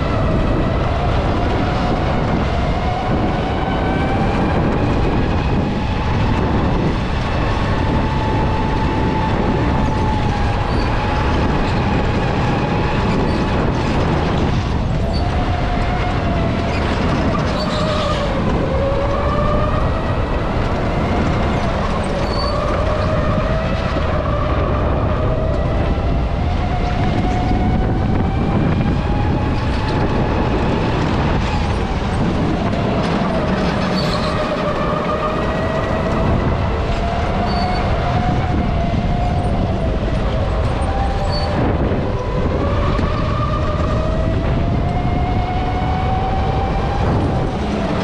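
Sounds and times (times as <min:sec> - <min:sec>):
electric kart motor whine: 0:00.0 - 0:48.0
steady rumble: 0:00.0 - 0:48.0.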